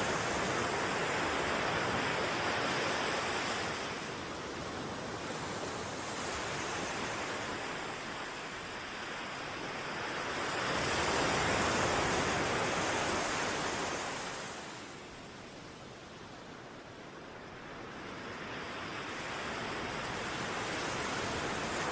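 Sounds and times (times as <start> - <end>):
ocean waves breaking on shore: 0.0 - 21.9.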